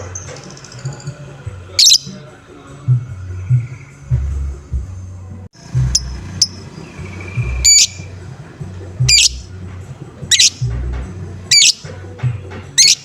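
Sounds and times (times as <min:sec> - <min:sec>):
lovebird calls: 0:00.0 - 0:04.9, 0:05.6 - 0:13.0.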